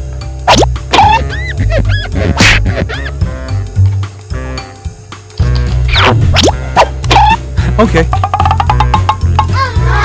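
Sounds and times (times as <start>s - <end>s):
upbeat music with bass beat: 0.5s - 10.0s.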